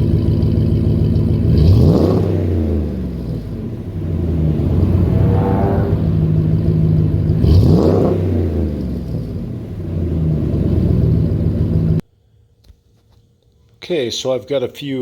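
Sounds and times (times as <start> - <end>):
truck engine idling with throttle blip: 0.0 - 12.0.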